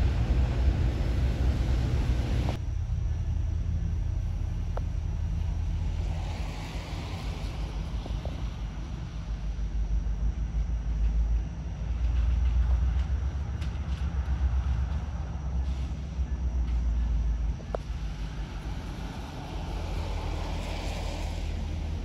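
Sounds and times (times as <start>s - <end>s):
diesel locomotive engines rumbling: 0.0s - 22.0s.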